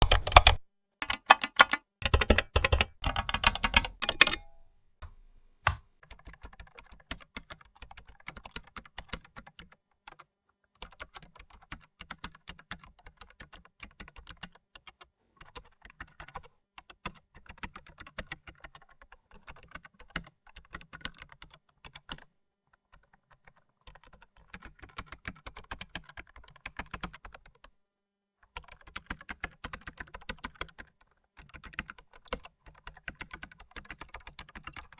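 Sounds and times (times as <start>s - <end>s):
typing on a computer keyboard: 0.0s - 4.6s, 5.7s - 27.7s, 28.4s - 34.9s.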